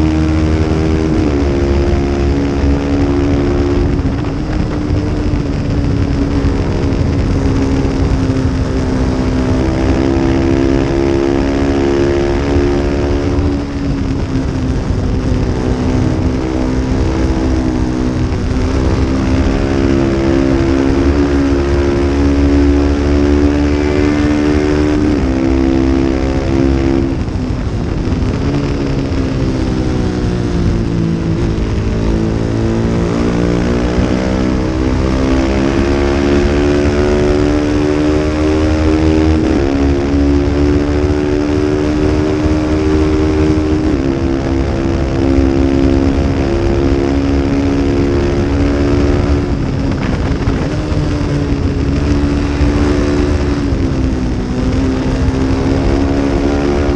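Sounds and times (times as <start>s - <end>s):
race motorcycle engine revving: 0.0s - 56.9s
wind noise: 0.0s - 56.9s.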